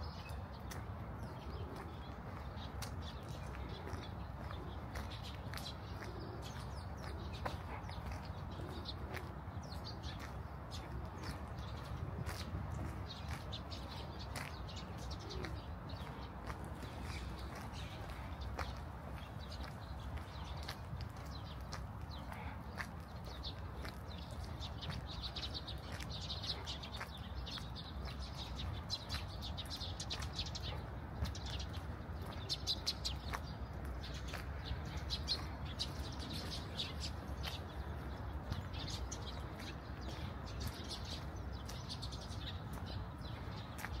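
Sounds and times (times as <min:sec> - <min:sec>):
low city rumble: 0:00.0 - 0:44.0
small birds chirping: 0:00.0 - 0:44.0.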